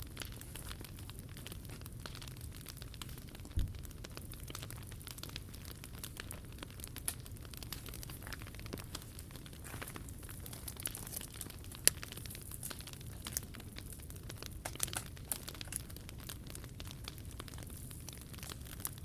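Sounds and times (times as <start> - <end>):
low steady fire rumble: 0.0 - 19.0
wood fire crackling: 0.0 - 19.0.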